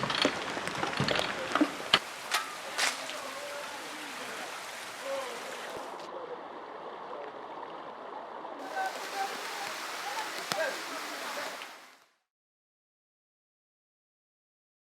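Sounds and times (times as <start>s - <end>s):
floodwater rushing: 0.0s - 12.2s.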